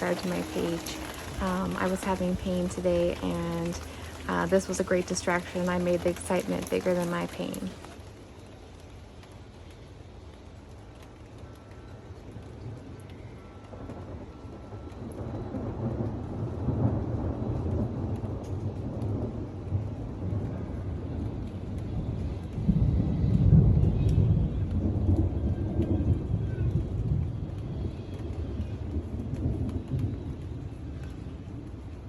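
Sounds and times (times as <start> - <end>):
thunder rumbling: 0.0 - 32.0.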